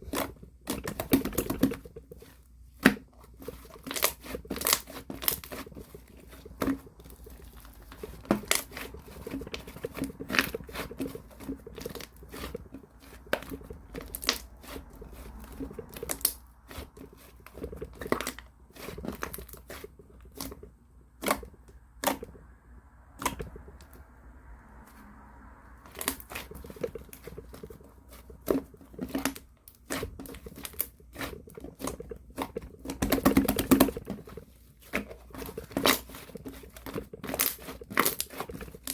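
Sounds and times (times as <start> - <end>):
slime squishing: 0.0 - 22.4, 23.1 - 24.1, 25.8 - 38.9.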